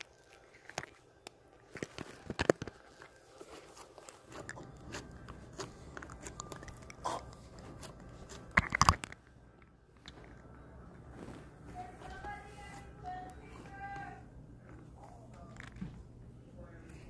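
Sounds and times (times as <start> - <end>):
slime squelching: 0.0 - 16.0.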